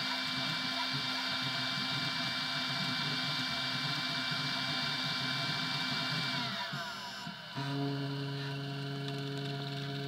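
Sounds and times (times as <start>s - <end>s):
stepper motor whine: 0.0s - 10.0s.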